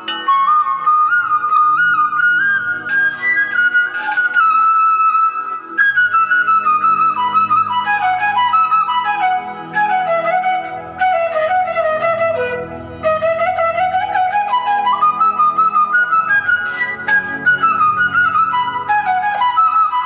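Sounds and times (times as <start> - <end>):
flute melody: 0.0 - 20.0.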